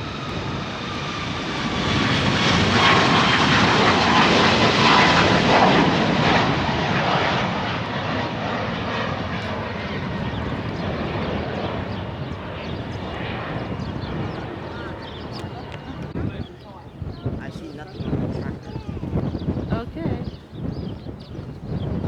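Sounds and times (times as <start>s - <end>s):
airplane flying past: 0.0s - 22.0s.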